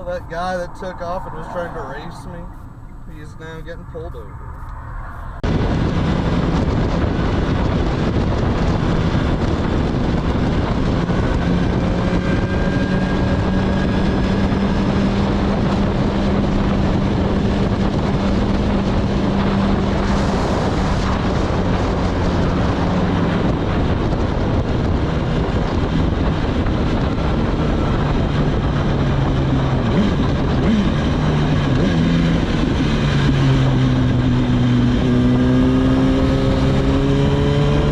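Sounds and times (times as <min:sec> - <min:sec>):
car engine hum: 0:00.0 - 0:37.9
road and wind noise: 0:00.0 - 0:37.9.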